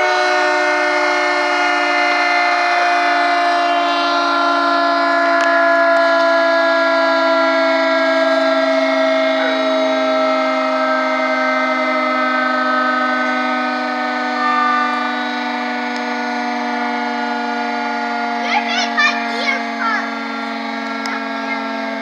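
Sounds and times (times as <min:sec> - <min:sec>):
electric siren multi-note tone: 0:00.0 - 0:22.0.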